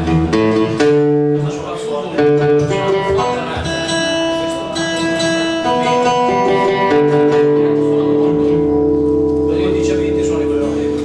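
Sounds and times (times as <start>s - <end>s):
acoustic guitar: 0.0s - 11.0s
lap steel guitar melody: 0.0s - 11.0s.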